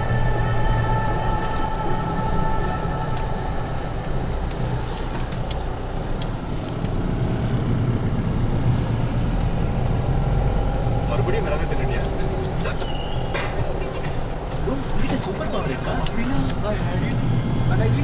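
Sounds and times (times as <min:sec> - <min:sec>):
vehicle driving on road: 0:00.0 - 0:18.0.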